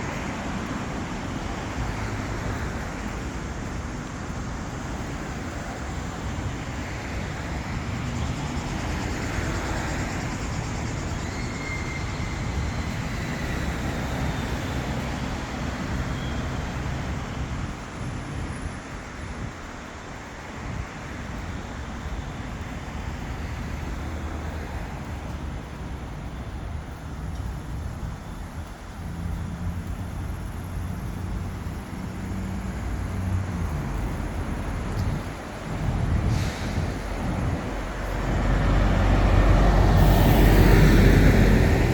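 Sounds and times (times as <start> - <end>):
road traffic: 0.0 - 41.9.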